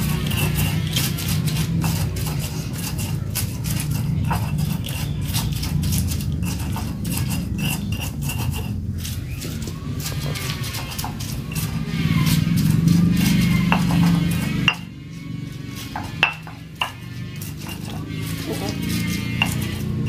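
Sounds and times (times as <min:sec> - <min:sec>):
stone pestle grinding in mortar: 0:00.0 - 0:20.0.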